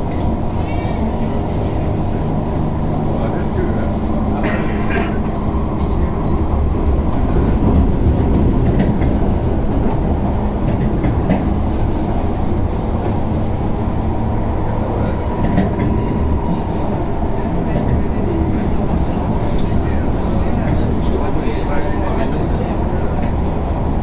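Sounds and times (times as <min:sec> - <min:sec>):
train hum: 0:00.0 - 0:24.0
train wheels rumbling on rail: 0:00.0 - 0:24.0.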